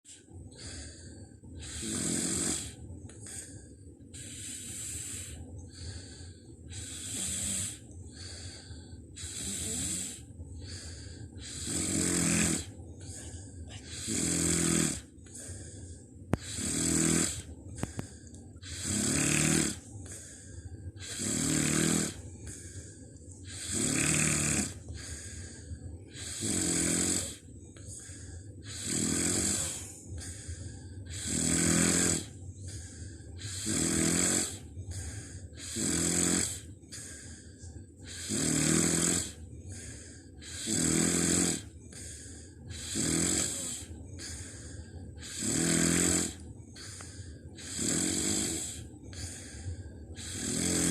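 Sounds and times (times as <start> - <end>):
person snoring: 0.5 - 50.9.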